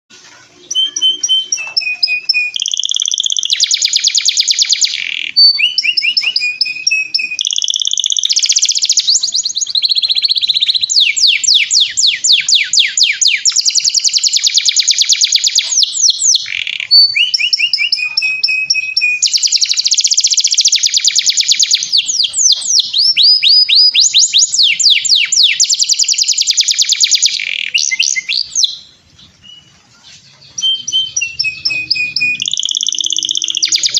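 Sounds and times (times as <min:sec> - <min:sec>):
canary singing: 0:00.6 - 0:33.9.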